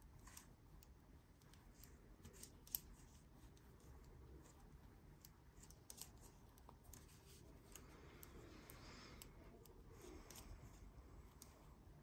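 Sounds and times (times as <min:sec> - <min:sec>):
knitting needles clicking: 0:00.0 - 0:12.0
low room hum: 0:00.0 - 0:12.0.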